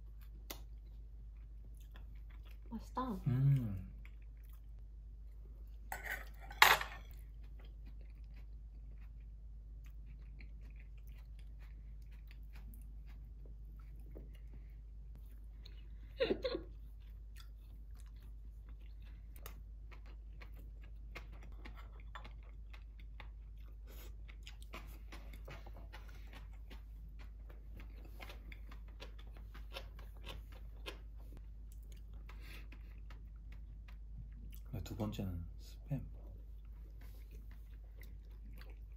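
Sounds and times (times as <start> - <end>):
chewing food: 0.0 - 5.9, 7.1 - 35.0, 36.1 - 38.9.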